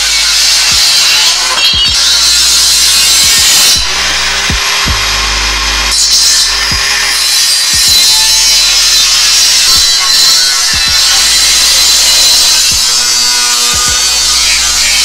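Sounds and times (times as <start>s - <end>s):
angle grinder cutting steel: 0.0s - 15.0s
music with thumping beat: 0.0s - 15.0s.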